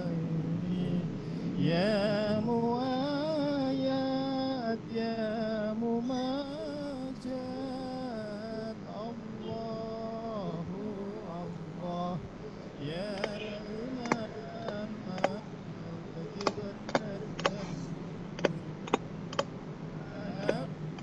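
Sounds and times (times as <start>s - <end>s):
person singing slow melody: 0.0s - 21.0s.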